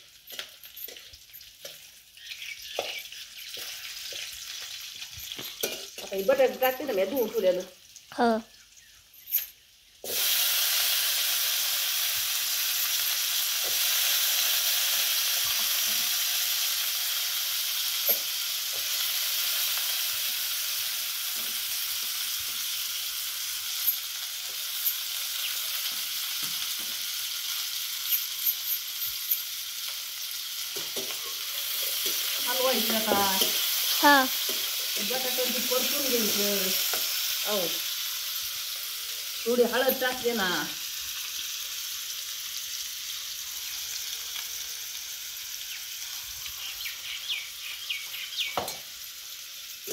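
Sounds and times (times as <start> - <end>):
potatoes sizzling in hot oil: 0.0 - 49.9.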